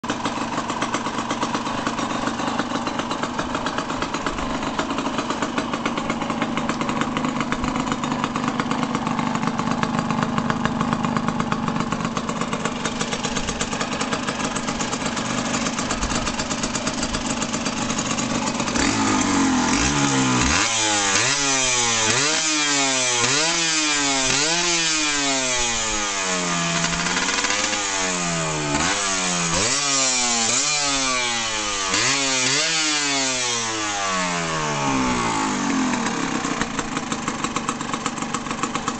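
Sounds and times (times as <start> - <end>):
two-stroke engine idling and revving: 0.0 - 38.9.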